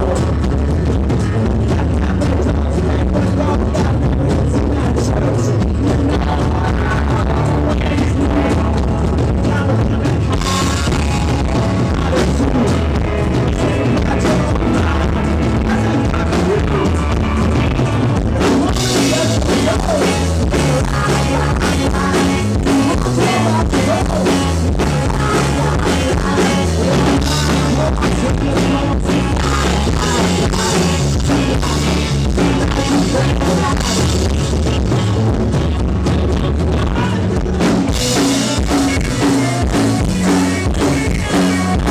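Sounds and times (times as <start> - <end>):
person singing: 0.0 - 41.9
rock band playing: 0.0 - 41.9.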